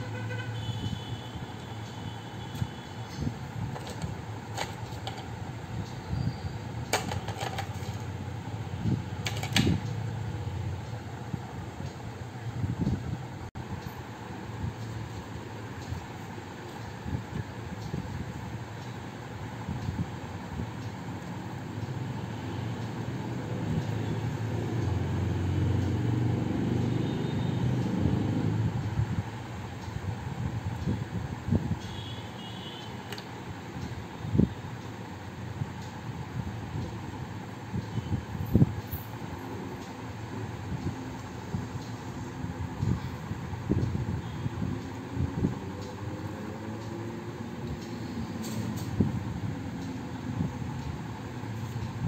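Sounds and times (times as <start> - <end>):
passing traffic rumble: 0.0 - 52.0.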